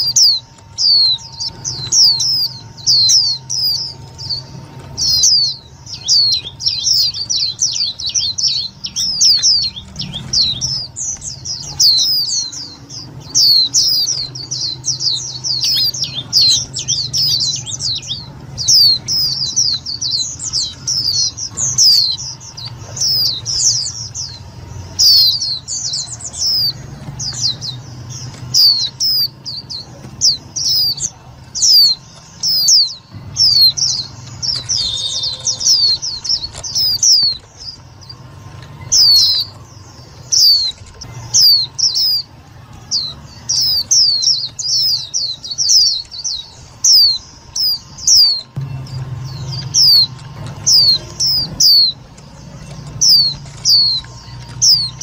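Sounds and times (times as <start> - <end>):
bird singing high chirps: 0.0 - 55.0
low steady hum: 0.0 - 55.0.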